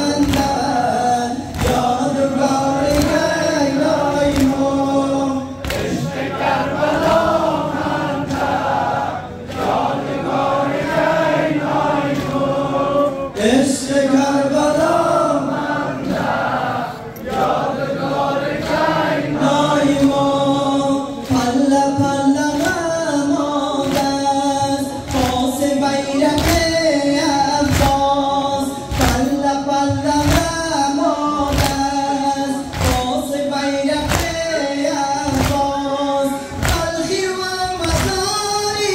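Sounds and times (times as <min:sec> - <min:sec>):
crowd chanting a lament: 0:00.0 - 0:38.9
rhythmic chest-beating: 0:00.0 - 0:38.9.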